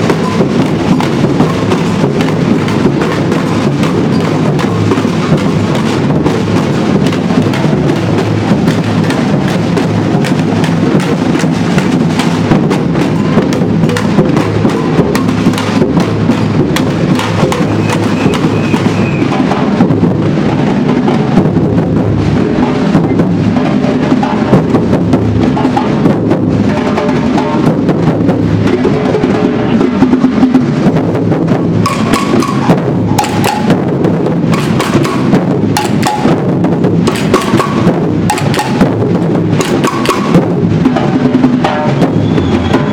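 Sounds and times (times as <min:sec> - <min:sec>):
street percussion band drumming: 0:00.0 - 0:42.9.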